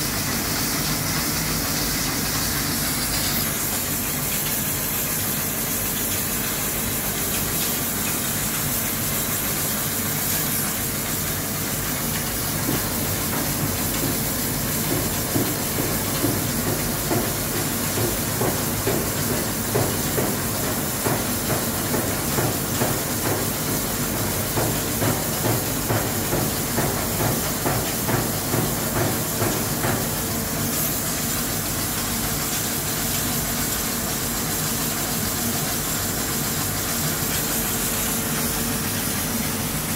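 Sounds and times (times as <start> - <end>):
coolant hiss: 0.0 - 39.9.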